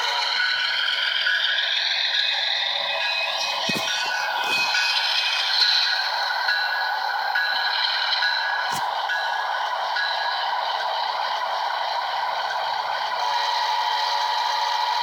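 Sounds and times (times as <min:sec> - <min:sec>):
train rail scraping noise: 0:00.0 - 0:15.0.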